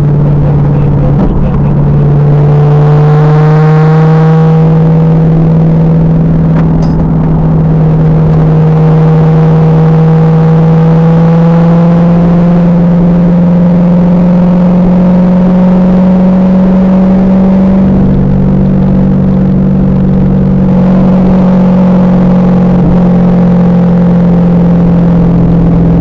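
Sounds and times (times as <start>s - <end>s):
car engine revving under load: 0.0s - 26.0s.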